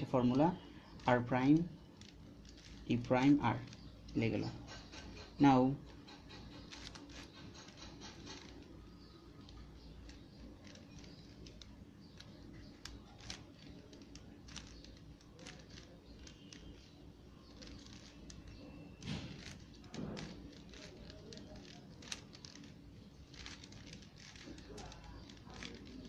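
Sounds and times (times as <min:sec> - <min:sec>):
puzzle cube clicking: 0:01.8 - 0:26.0
knocks and rustling: 0:01.9 - 0:26.0.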